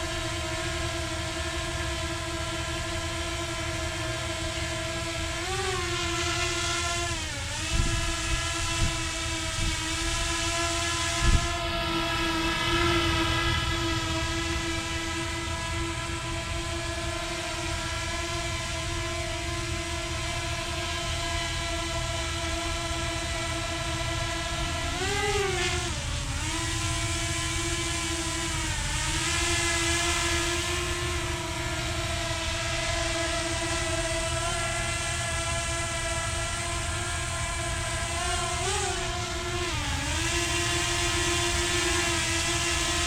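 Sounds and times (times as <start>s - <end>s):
drone propellers whining: 0.0s - 43.0s.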